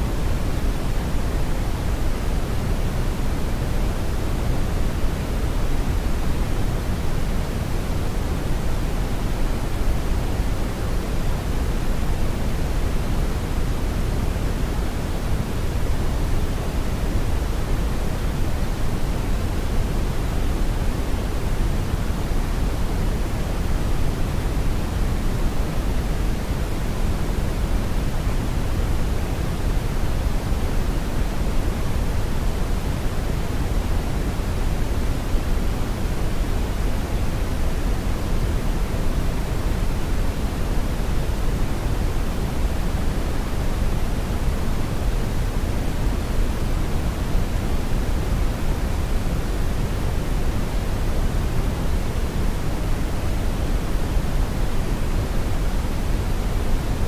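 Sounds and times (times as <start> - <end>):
steady brown noise: 0.0 - 57.0.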